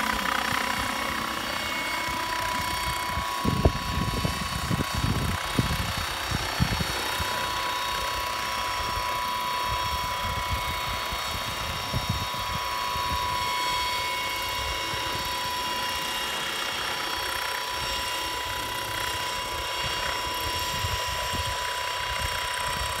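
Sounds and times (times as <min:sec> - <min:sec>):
drone whine of high tones: 0:00.0 - 0:23.0
low rotor buffeting: 0:00.0 - 0:23.0.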